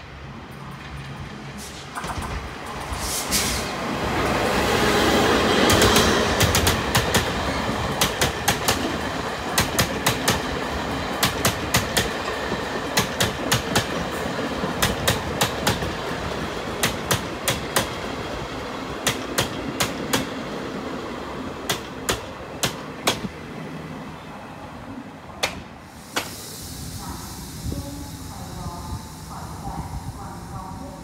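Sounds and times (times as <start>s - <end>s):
train coaches rumbling past: 0.0s - 31.0s.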